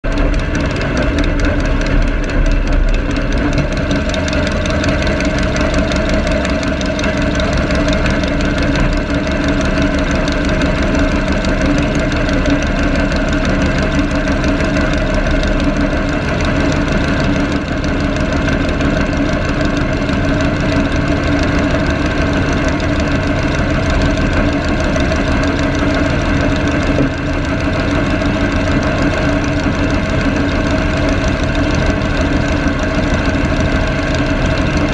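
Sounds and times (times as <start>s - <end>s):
small engine idling: 0.0s - 34.9s.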